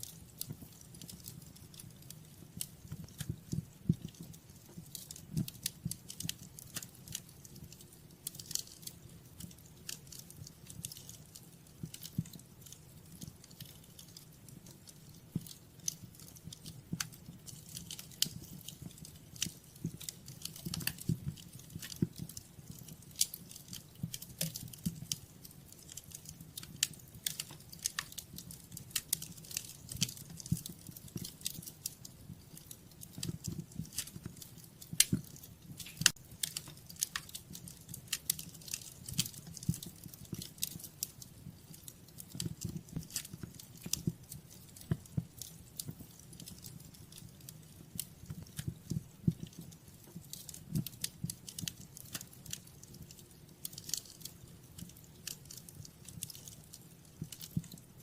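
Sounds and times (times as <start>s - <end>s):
fireplace fire crackling: 0.0s - 58.0s
low rumble of flames: 0.0s - 58.0s.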